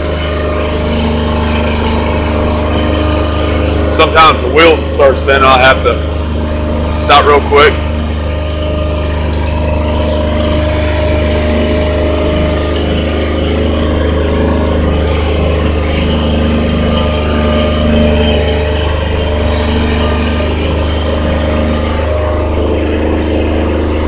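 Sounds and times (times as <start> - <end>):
turf sprayer engine droning: 0.0 - 24.0.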